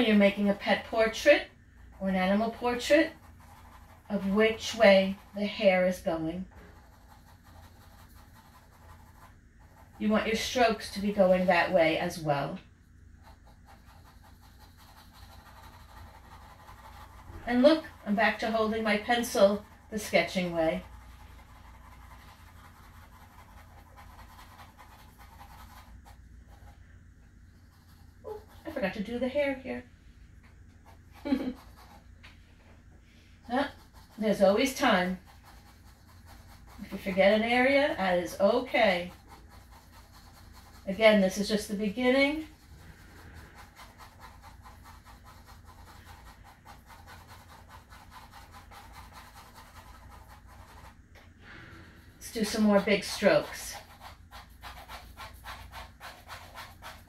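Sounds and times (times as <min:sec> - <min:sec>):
pencil sketching on paper: 0:00.0 - 0:26.8, 0:27.5 - 0:29.4, 0:30.8 - 0:32.1, 0:33.4 - 0:51.1, 0:52.0 - 0:57.0
steady low hum: 0:00.0 - 0:57.0.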